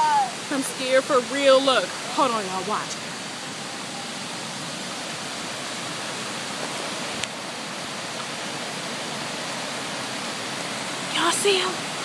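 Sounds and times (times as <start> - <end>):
waterfall rushing into creek: 0.0 - 12.0.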